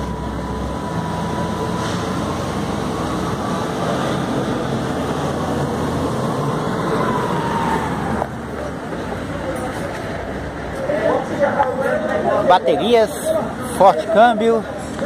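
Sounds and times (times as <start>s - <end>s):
steady high whine: 0.0s - 13.9s
cars passing close by: 0.0s - 15.0s.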